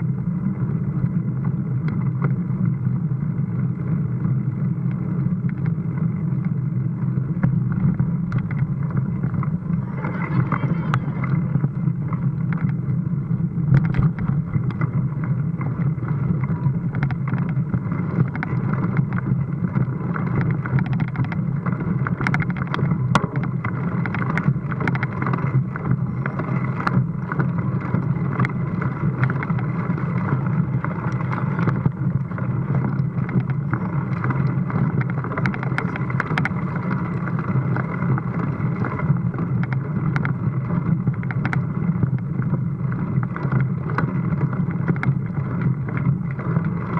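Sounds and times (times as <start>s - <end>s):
bike rumbling over cobbles: 0.0s - 46.9s
wind on microphone: 0.0s - 46.9s
bike clicks and knocks: 4.8s - 9.6s, 11.2s - 13.0s, 13.6s - 46.9s.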